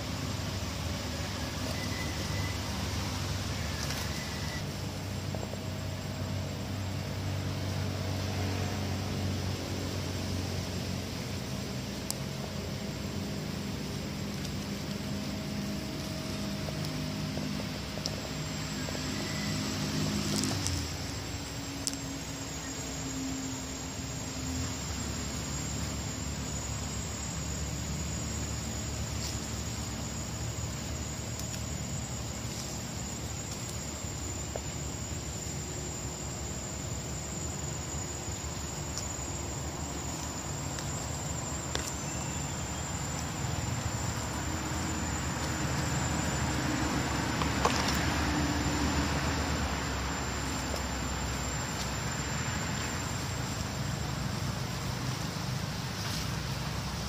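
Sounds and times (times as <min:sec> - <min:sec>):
leaf rustles and clicks: 0:00.0 - 0:06.8, 0:07.5 - 0:23.4, 0:24.3 - 0:57.0
high drone of insects: 0:00.0 - 0:57.0
low rumble and hiss: 0:00.0 - 0:57.0.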